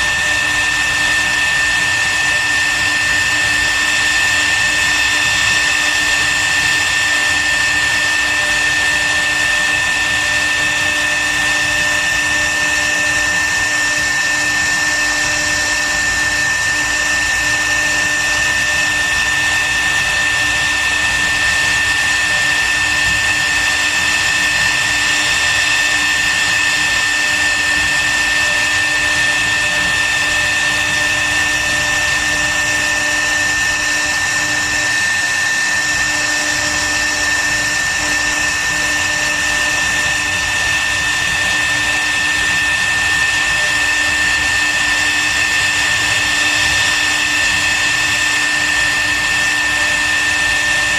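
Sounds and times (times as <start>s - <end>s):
router spindle high whine: 0.0s - 50.9s.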